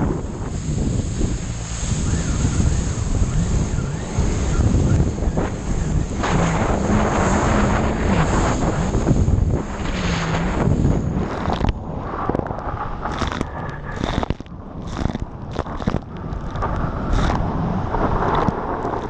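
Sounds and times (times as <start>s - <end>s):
jet ski engine: 0.0s - 19.0s
water spray noise: 0.0s - 19.0s
wind buffeting on microphone: 0.0s - 19.0s.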